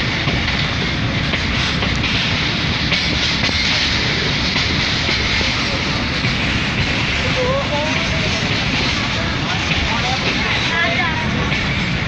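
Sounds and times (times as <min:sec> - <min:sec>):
train carriage rumbling and rattling: 0:00.0 - 0:12.0.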